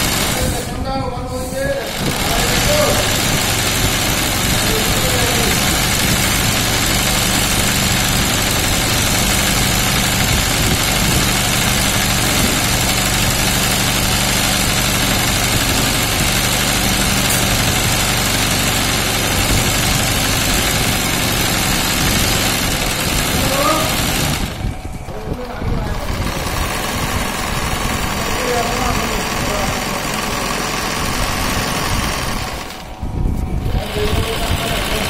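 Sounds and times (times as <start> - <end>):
sewing machine running: 0.0 - 0.8, 1.7 - 35.0.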